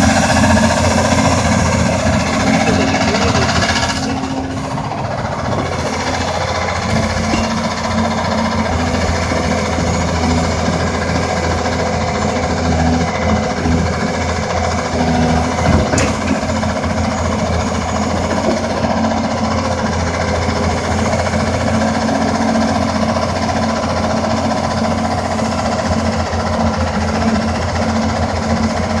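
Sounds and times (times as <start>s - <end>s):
excavator rock drill rattling: 0.0s - 29.0s.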